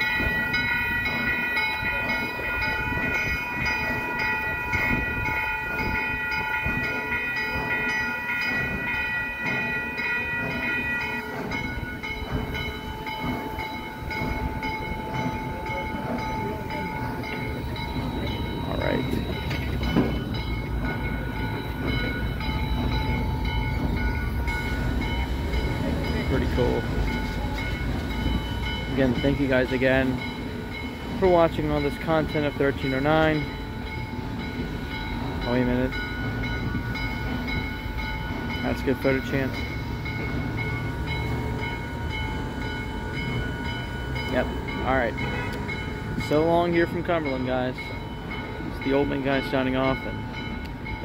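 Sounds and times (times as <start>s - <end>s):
steady high tones: 0.0s - 51.0s
steam locomotive rumble: 0.0s - 51.0s.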